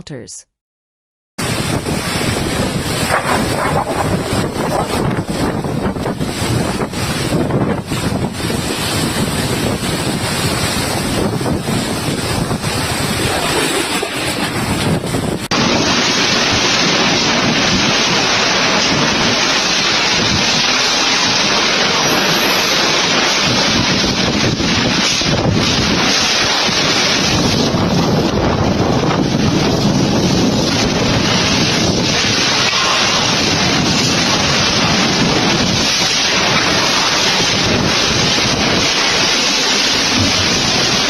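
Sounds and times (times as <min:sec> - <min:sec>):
strong wind buffeting microphone: 0:01.4 - 0:41.0.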